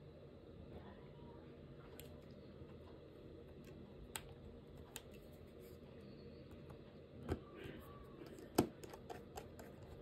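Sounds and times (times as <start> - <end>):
low room hum and hiss: 0.0 - 10.0.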